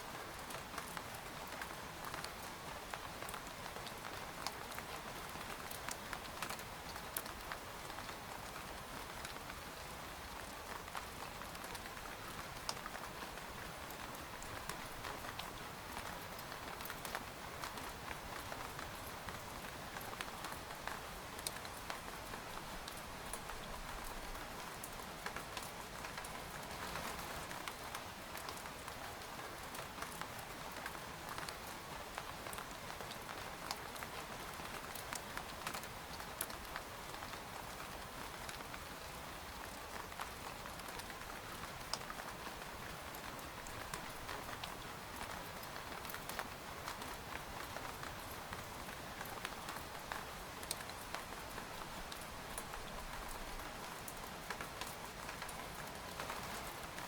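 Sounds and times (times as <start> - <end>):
rain falling on a tent: 0.0 - 57.0.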